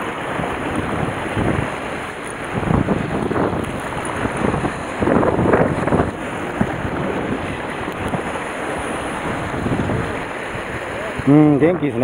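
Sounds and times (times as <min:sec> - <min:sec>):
surf on rocky shore: 0:00.0 - 0:12.0
wind buffeting microphone: 0:00.0 - 0:12.0.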